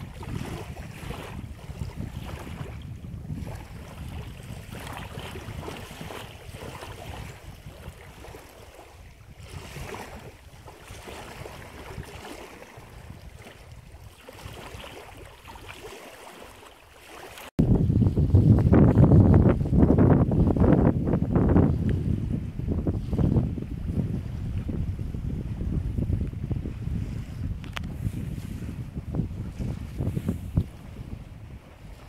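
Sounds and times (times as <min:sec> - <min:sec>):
wind buffeting microphone: 0:00.0 - 0:16.0, 0:17.6 - 0:32.0.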